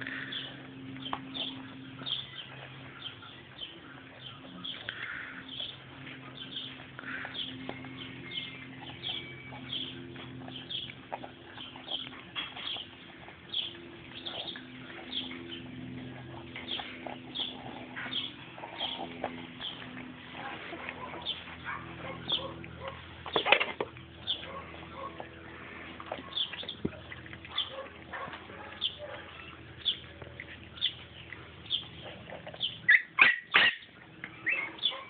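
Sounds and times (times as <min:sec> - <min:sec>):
dogs crunching dry food: 0:00.0 - 0:35.0
low steady hum: 0:00.0 - 0:35.0.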